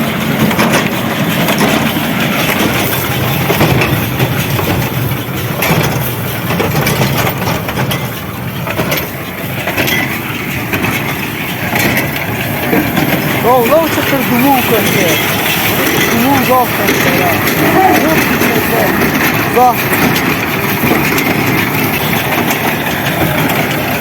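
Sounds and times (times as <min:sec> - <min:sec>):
mechanical clatter and rustle: 0:00.0 - 0:24.0
tractor engine running: 0:00.0 - 0:24.0.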